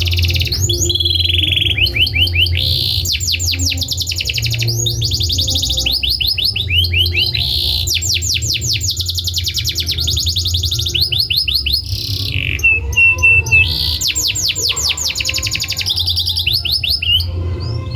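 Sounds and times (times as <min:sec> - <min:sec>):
canary singing trills: 0:00.0 - 0:17.9.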